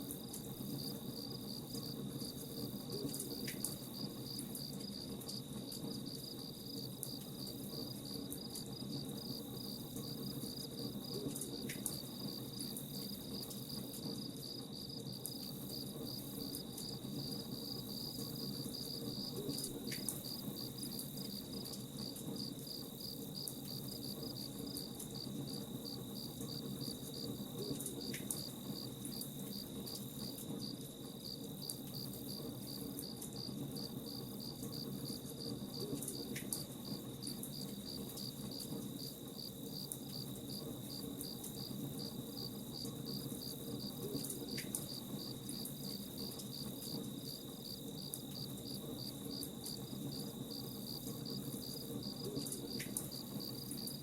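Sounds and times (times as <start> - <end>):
crickets chirping: 0.1 - 54.0.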